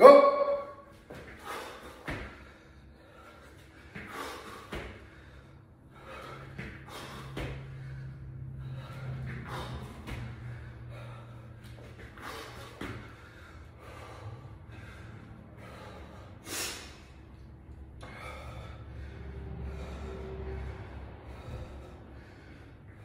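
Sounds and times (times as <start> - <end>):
man breathing hard: 1.0 - 23.0
low hum: 1.7 - 23.0.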